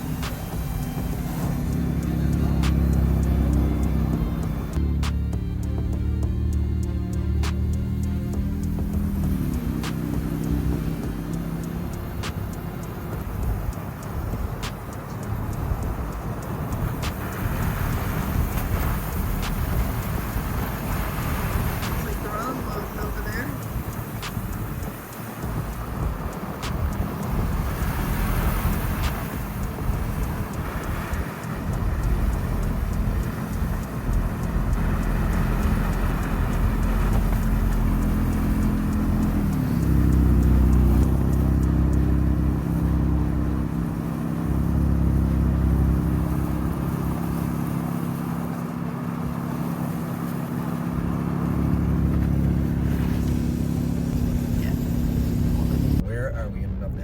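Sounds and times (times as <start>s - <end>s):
car engine running: 0.0s - 57.0s
road and tyre noise: 0.0s - 57.0s.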